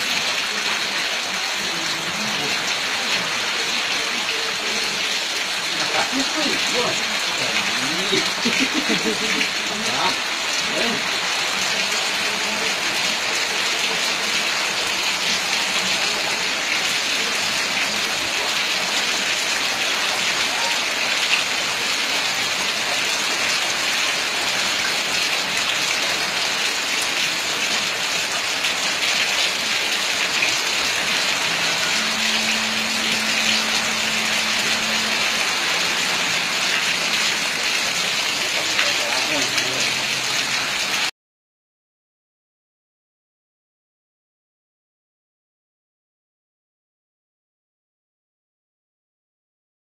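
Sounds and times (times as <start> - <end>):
heavy rain on ground and puddles: 0.0 - 41.1.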